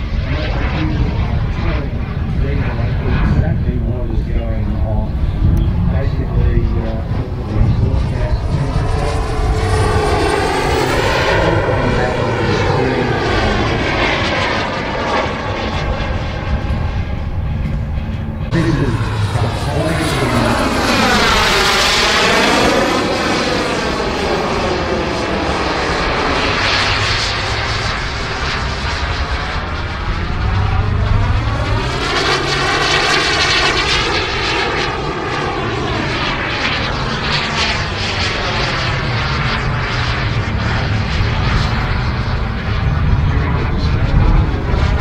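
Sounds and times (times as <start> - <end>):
model jet turbine engine: 0.0 - 45.0.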